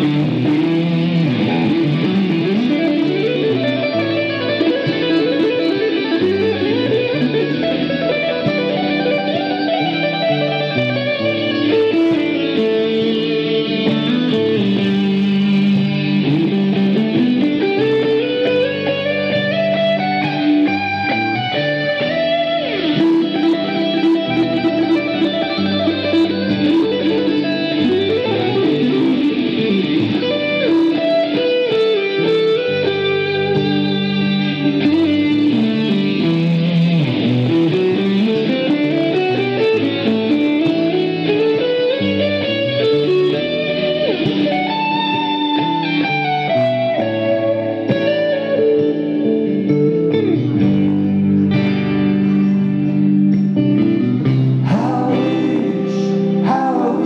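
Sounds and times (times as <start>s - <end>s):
fingerpicked acoustic guitar: 0.0s - 57.0s.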